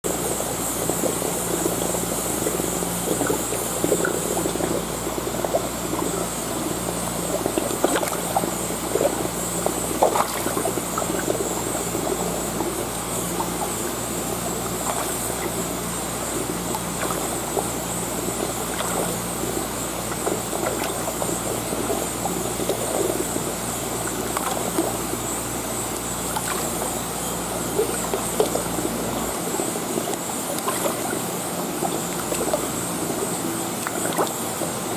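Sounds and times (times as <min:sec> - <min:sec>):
steady low hum: 0:00.0 - 0:34.9
water trickling in fish tank: 0:00.1 - 0:34.9
fish splashing at surface: 0:00.2 - 0:34.9.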